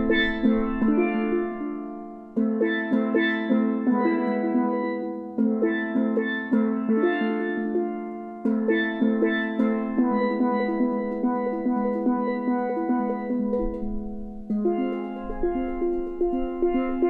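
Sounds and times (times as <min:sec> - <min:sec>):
steelpans played with mallets: 0:00.0 - 0:17.0.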